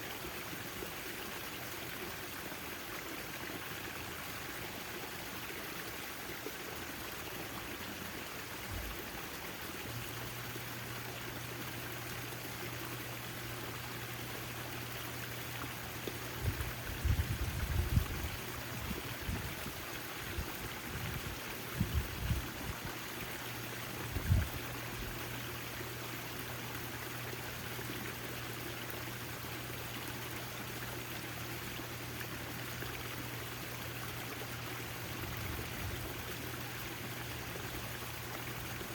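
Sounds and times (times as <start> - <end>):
fountain water splashing: 0.0 - 38.9
low steady hum: 0.0 - 38.9.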